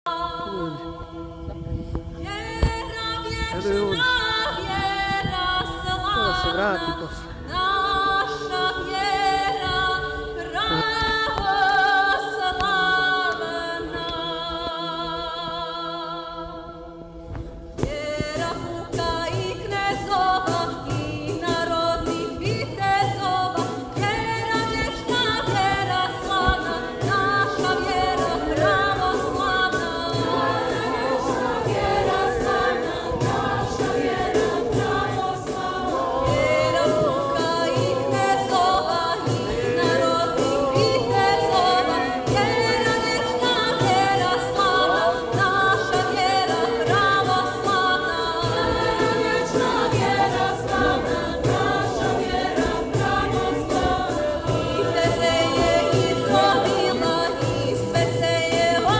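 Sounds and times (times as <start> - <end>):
choir singing religious music: 0.0 - 58.9.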